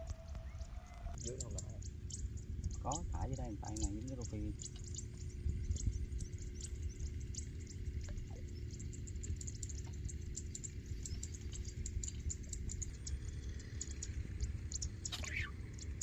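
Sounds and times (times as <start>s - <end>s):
faint high ticks: 0.0s - 16.0s
steady low rumble: 0.0s - 16.0s.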